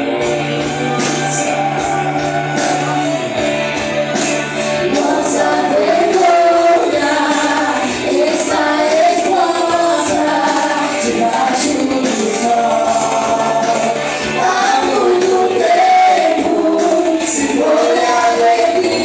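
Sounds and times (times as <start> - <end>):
band accompaniment: 0.0 - 19.0
vocal group singing: 0.0 - 19.0.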